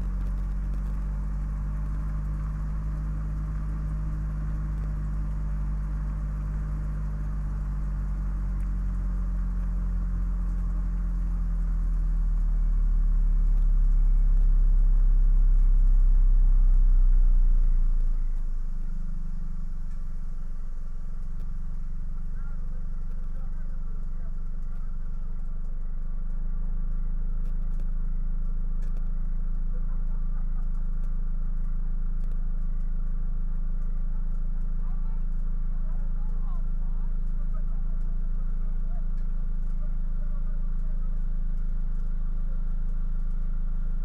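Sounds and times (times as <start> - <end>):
car engine hum and tyre noise: 0.0 - 44.0.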